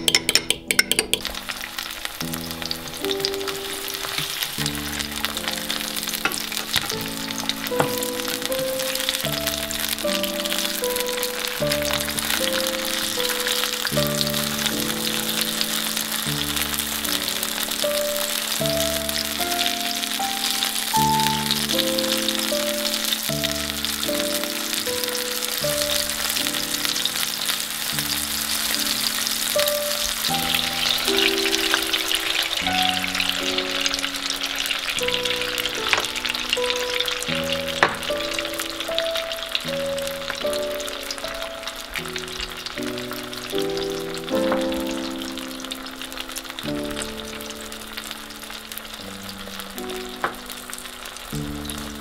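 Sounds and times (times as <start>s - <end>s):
background music: 0.0s - 52.0s
tomato slices sizzling in oil: 0.0s - 52.0s.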